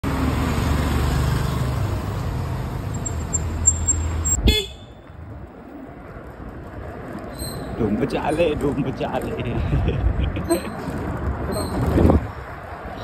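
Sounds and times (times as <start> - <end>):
car traffic: 0.0 - 13.0
motorbike engines rumbling: 0.0 - 13.0.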